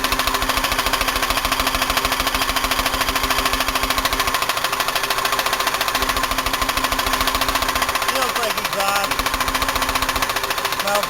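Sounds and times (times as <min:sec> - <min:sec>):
engine running rough: 0:00.0 - 0:11.0
rapid engine knocking: 0:00.0 - 0:11.0.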